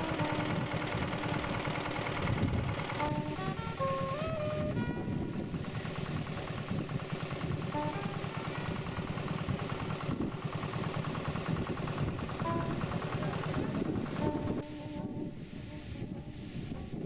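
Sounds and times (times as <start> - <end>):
stationary engine idling: 0.0 - 14.9.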